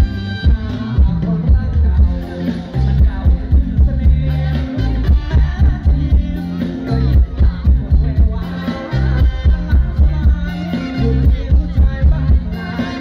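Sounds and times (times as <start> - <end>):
live band playing amplified music: 0.0 - 13.0
person singing: 0.0 - 13.0.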